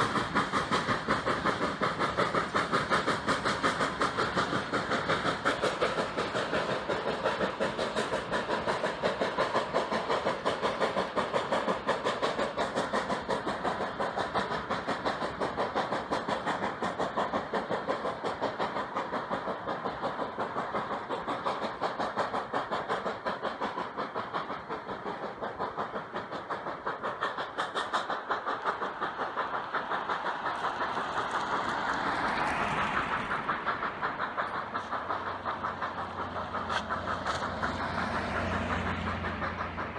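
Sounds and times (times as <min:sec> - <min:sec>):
steam locomotive chuffing: 0:00.0 - 0:39.9.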